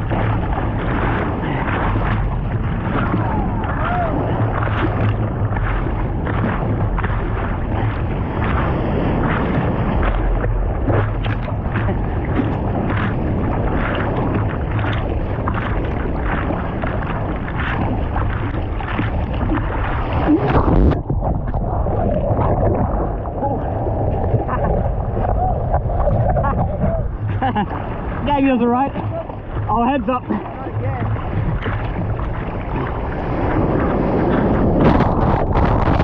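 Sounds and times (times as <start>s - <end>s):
surf and water splashes: 0.0s - 36.0s
wind buffeting microphone: 0.0s - 36.0s.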